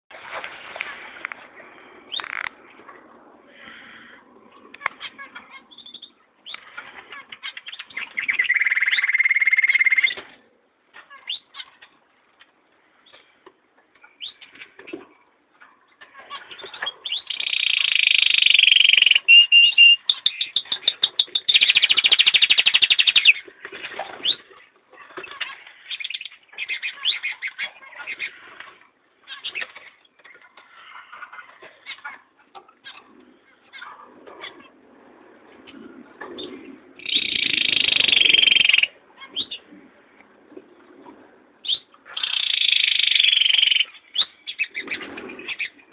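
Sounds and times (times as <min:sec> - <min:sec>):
canaries singing: 0:02.0 - 0:45.9.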